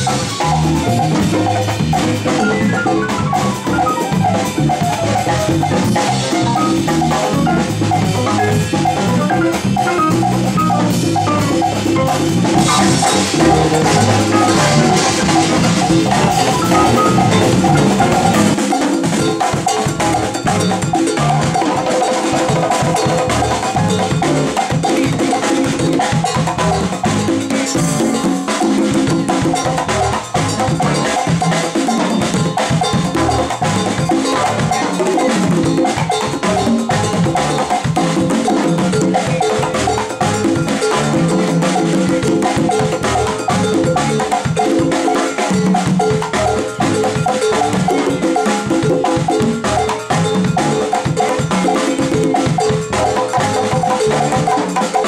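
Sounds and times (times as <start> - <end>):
congas struck by hand: 0.0 - 55.0
latin jazz band playing: 0.0 - 55.0.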